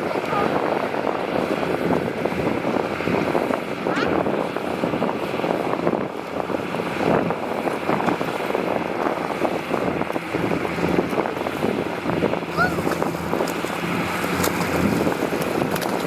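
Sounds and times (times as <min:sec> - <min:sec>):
wind buffeting microphone: 0:00.0 - 0:16.0
heavy diesel machinery rumbling: 0:01.4 - 0:16.0.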